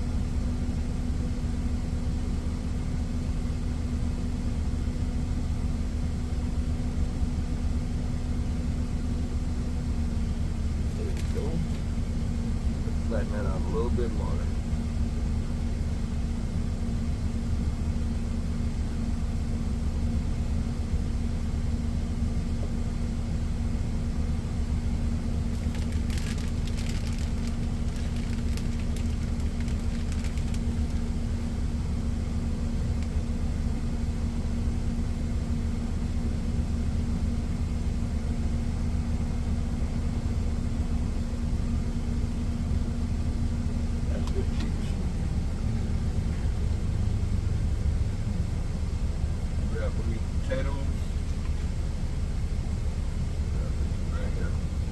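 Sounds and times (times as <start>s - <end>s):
truck engine idling: 0.0s - 54.9s.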